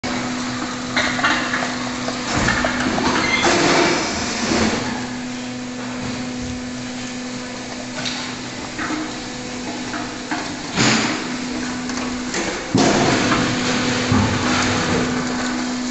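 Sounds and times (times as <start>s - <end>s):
machinery hum: 0.0s - 15.9s.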